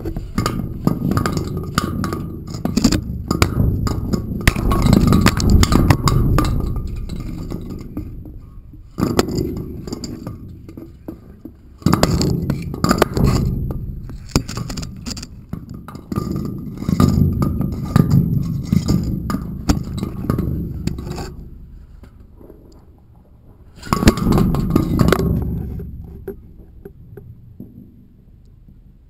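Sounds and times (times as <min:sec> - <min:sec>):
low rumbling handling noise: 0:00.0 - 0:29.0.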